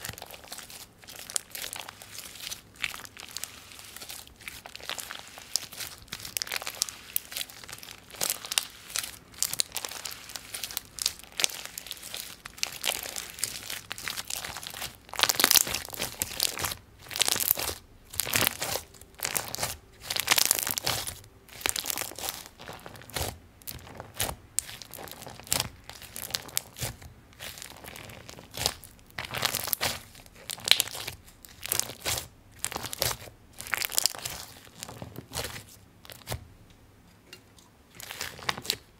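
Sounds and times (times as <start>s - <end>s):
slime crackling and squishing: 0.0s - 36.5s, 37.9s - 38.9s.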